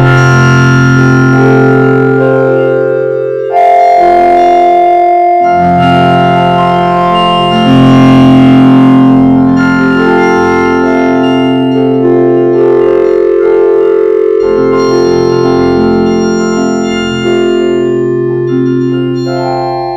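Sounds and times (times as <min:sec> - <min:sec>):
synthesizer-like chords: 0:00.0 - 0:19.9.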